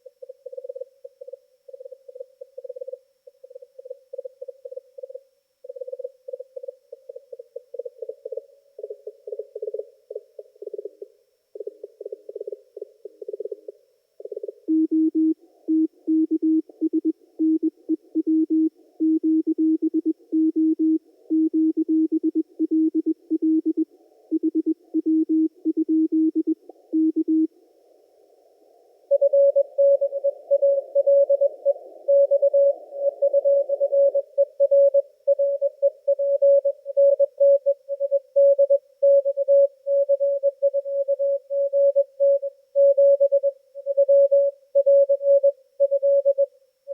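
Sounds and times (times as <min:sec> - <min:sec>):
faint radio hiss: 0:00.0 - 0:19.4, 0:20.0 - 0:46.9.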